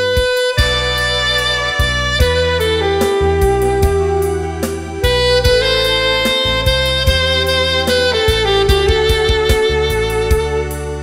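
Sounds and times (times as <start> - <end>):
backing track with bass and drums: 0.0 - 11.0
saxophone melody: 0.0 - 11.0.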